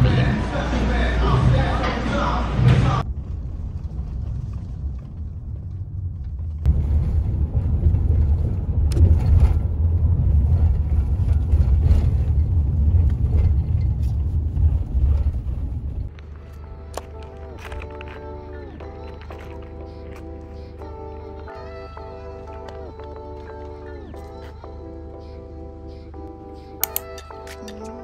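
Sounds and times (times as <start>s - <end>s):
car interior road rumble: 0.0s - 24.9s.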